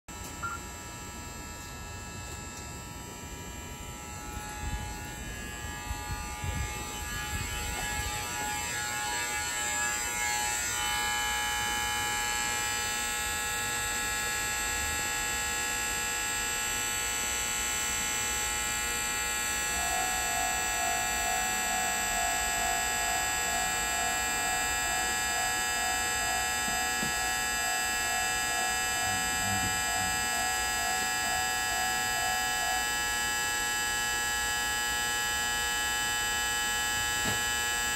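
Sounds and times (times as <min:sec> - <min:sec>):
continuous electric buzz: 0:00.1 - 0:37.9
pulsing warning tone: 0:00.1 - 0:37.9.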